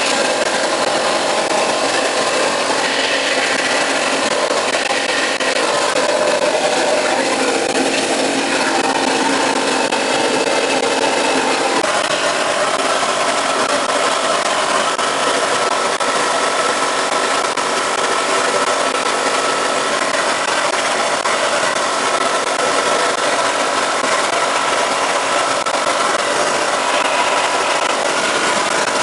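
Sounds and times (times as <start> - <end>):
blast nozzle hissing: 0.0 - 29.0
machine humming: 0.0 - 29.0.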